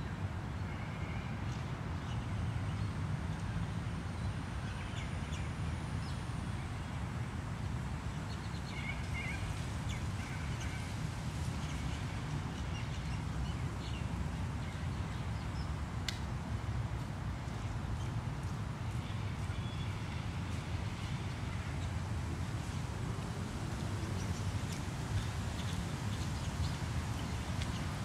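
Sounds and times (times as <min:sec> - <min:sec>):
distant city traffic rumble: 0:00.0 - 0:28.0.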